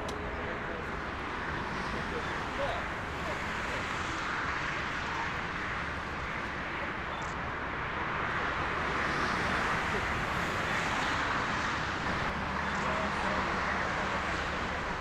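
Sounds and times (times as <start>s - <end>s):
jet airliner engines roaring: 0.0s - 15.0s.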